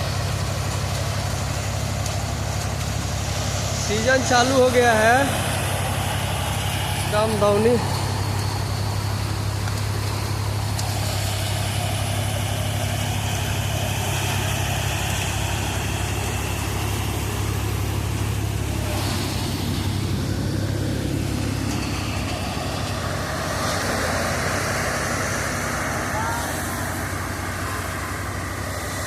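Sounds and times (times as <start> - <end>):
thresher machine noise: 0.0 - 29.0
tractor diesel engine running: 0.0 - 29.0.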